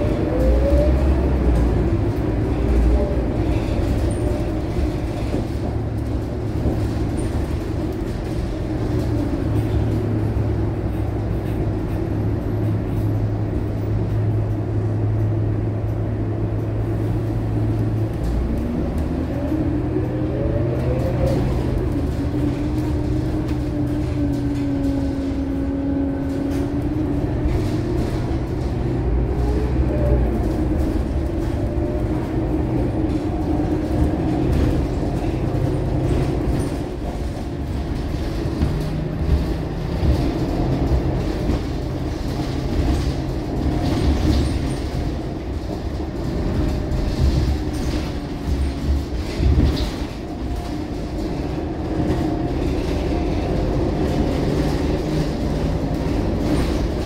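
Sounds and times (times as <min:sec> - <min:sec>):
bus engine droning: 0:00.0 - 0:57.0
road noise: 0:00.0 - 0:57.0.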